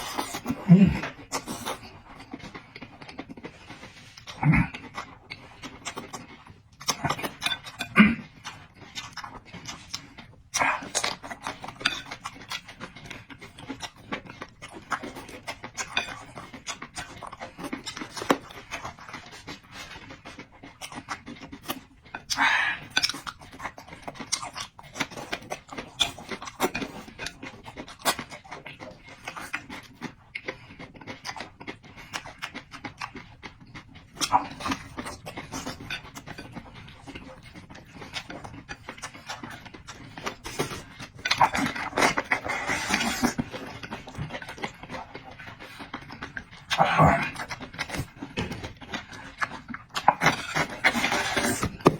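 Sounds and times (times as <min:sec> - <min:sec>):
chewing and mouth smacking: 0:00.0 - 0:51.9.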